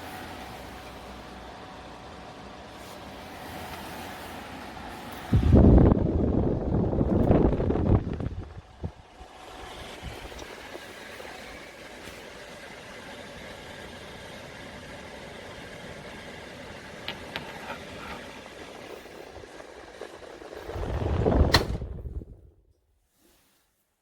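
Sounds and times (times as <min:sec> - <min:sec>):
fan blowing air: 0:00.0 - 0:22.7.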